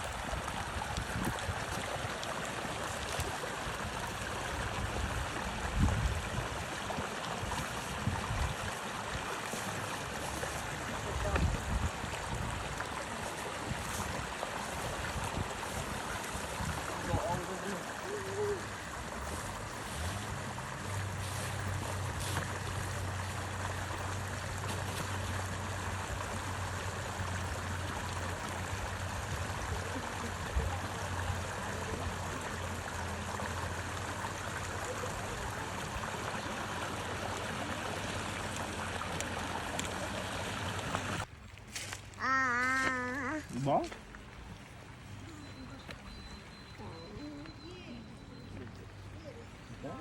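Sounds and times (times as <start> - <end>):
flowing stream water: 0.0 - 50.0.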